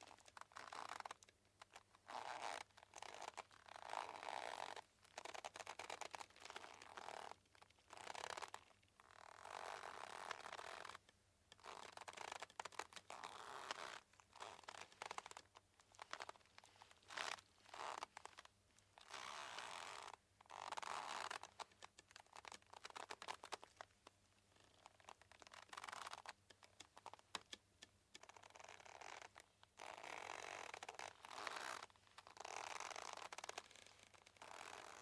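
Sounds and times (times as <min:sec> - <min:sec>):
rope creaking and squeaking: 0:00.1 - 0:11.0, 0:11.6 - 0:23.9, 0:24.6 - 0:35.0.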